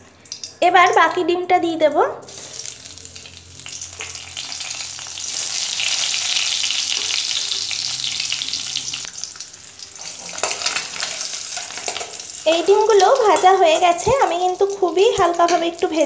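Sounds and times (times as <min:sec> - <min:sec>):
eggs sizzling in hot oil: 0:02.3 - 0:16.0.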